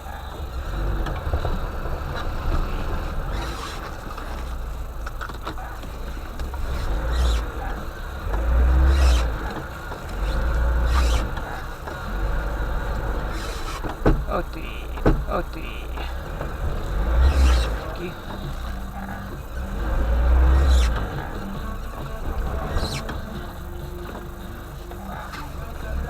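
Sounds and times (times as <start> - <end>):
vehicle engine rumbling under load: 0.0 - 26.0.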